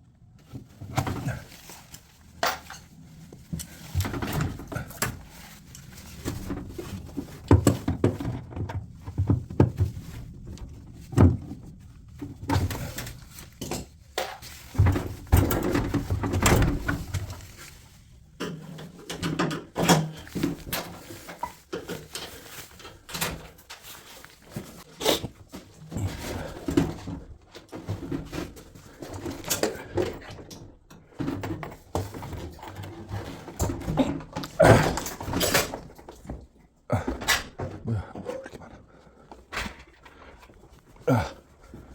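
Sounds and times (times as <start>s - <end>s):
washing machine parts clattering: 0.4s - 38.7s.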